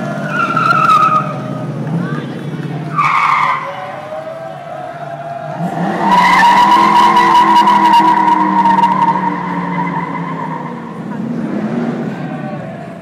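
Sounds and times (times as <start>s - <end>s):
car engine: 0.0s - 13.0s
car tyres squealing: 0.0s - 13.0s.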